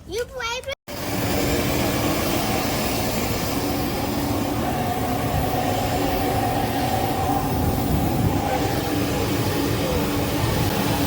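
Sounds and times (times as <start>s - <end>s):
jet cabin rumble and hiss: 0.9s - 11.0s.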